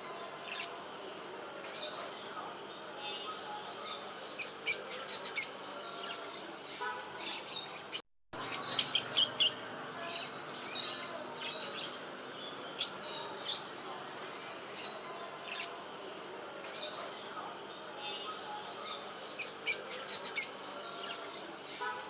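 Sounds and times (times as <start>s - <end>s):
cage birds chirping: 0.0s - 22.0s.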